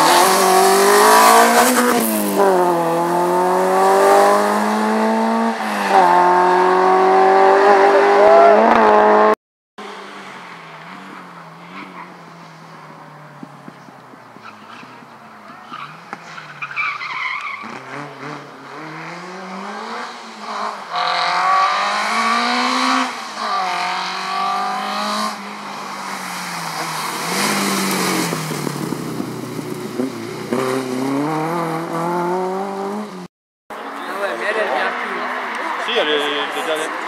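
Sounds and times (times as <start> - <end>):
rally car engine revving: 0.0 - 12.2, 14.5 - 33.3.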